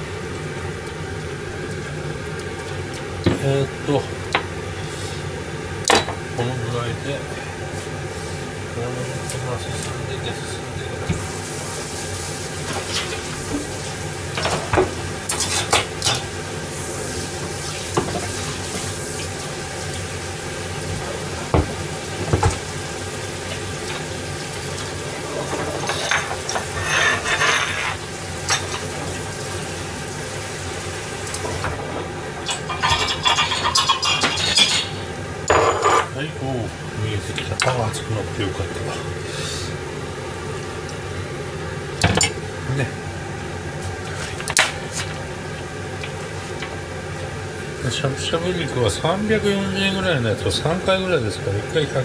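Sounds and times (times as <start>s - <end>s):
soup bubbling and hissing: 0.0s - 6.4s, 7.2s - 9.3s, 9.9s - 35.4s, 38.8s - 47.8s.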